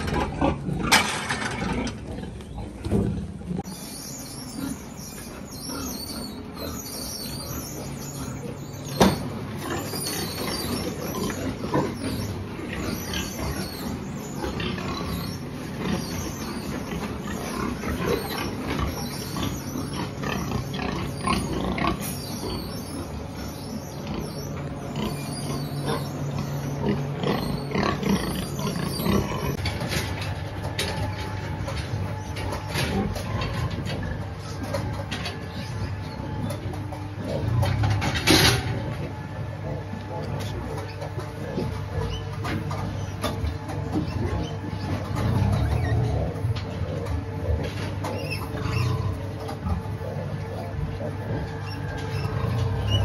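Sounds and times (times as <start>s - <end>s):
pigs calling: 0.0s - 53.0s.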